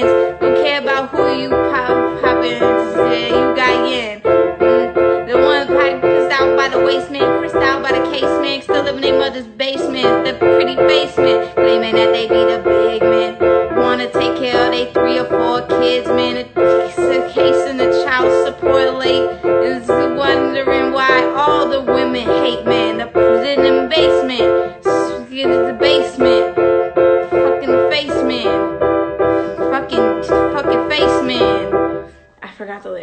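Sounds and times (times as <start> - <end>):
gliding melody line: 0.0 - 32.2
keyboard chords pulsing: 0.0 - 32.2.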